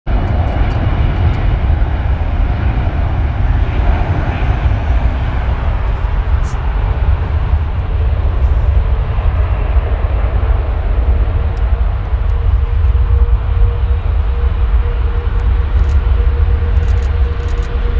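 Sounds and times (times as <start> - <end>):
jet engines taxiing: 0.1 - 17.9.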